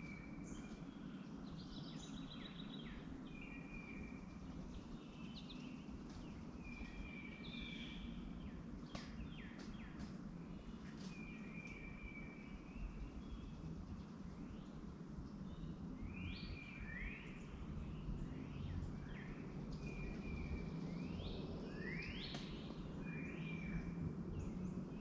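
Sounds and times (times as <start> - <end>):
birds whistling and chirping: 0.0 - 13.6, 15.5 - 25.0
low background hum: 0.0 - 25.0.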